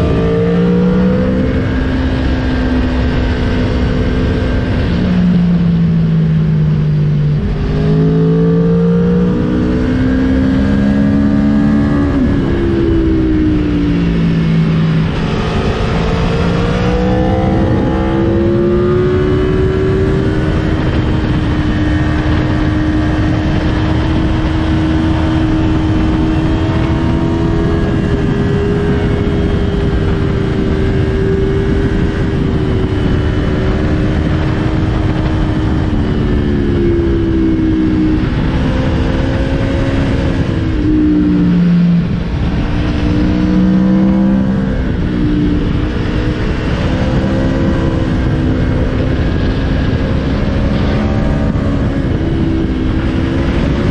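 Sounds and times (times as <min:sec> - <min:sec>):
motorcycle engine running: 0:00.0 - 0:53.9
wind rush: 0:00.0 - 0:53.9.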